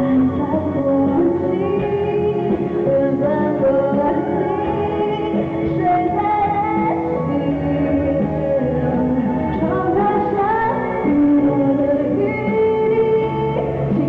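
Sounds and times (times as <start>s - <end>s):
band playing pop ballad: 0.0s - 14.0s
person singing: 0.0s - 14.0s.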